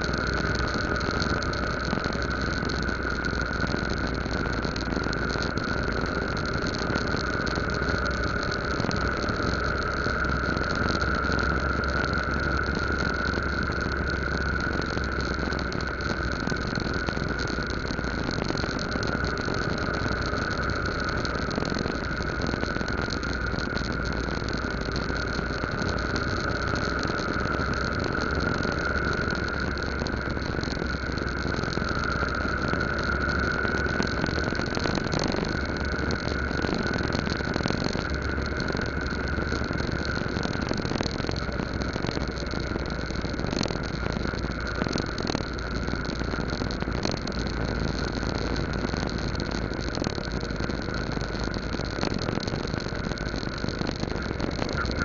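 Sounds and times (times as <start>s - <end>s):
motorcycle engine running: 0.0s - 45.2s
road noise: 0.0s - 55.0s.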